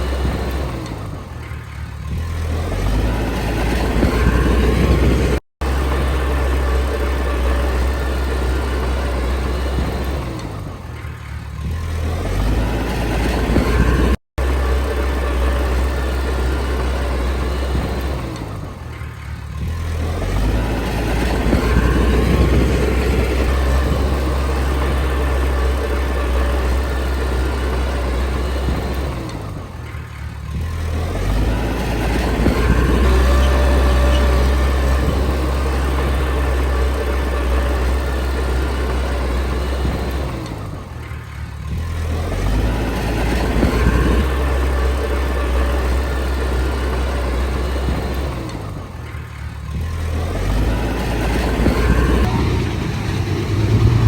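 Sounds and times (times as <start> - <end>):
bulldozer diesel engine working: 0.0 - 54.0.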